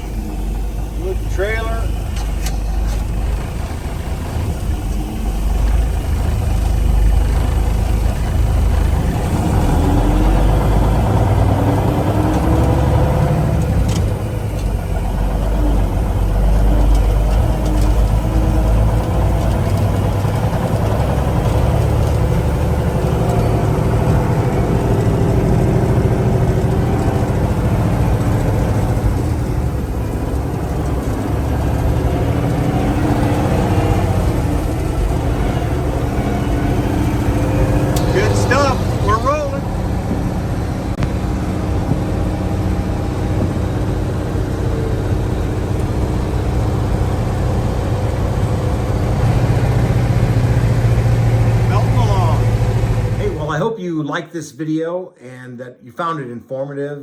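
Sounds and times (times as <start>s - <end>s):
diesel truck engine under load: 0.0s - 53.7s.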